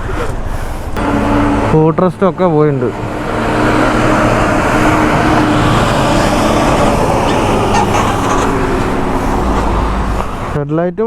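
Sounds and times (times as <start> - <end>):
road traffic noise: 0.0 - 11.0
engine running close by: 1.0 - 10.6.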